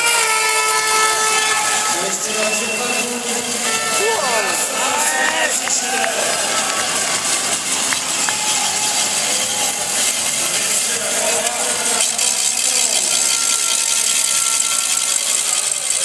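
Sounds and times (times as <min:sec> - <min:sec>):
bmx tyres rolling over wooden ramps: 0:00.0 - 0:16.0
crowd murmuring: 0:00.0 - 0:16.0.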